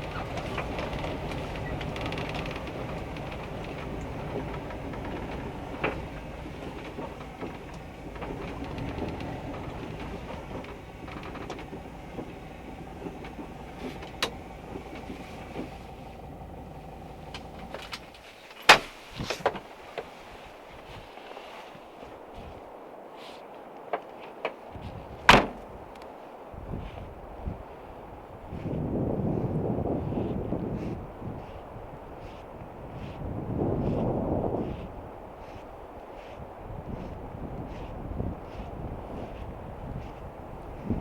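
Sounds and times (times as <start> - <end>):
van engine and road rumble: 0.0 - 41.0.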